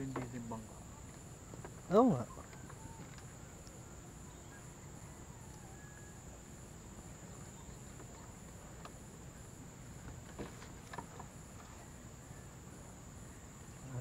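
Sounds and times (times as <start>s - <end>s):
insects buzzing: 0.0s - 14.0s
insects chirping: 0.0s - 14.0s.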